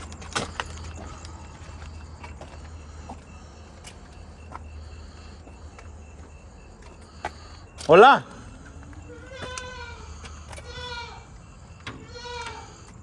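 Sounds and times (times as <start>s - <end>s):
high repeating chirp: 0.0s - 13.0s
steady low hum: 0.0s - 13.0s.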